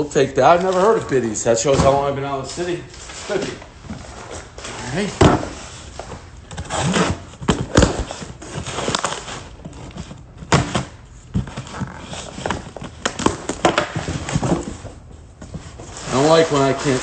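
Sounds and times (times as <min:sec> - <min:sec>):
cardboard rustling and scraping: 0:00.4 - 0:17.0.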